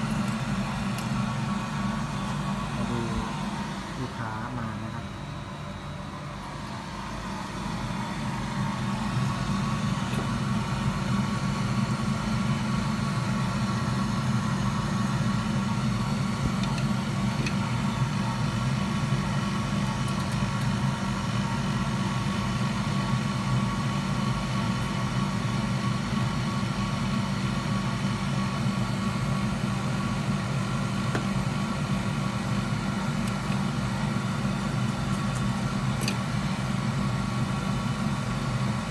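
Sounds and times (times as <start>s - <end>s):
electric machine fan drone: 0.0s - 38.9s.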